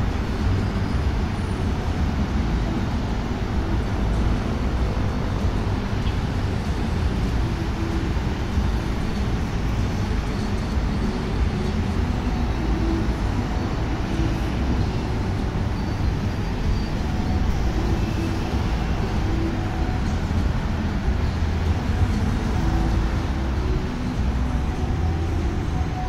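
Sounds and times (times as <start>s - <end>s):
road traffic hum: 0.0s - 26.0s.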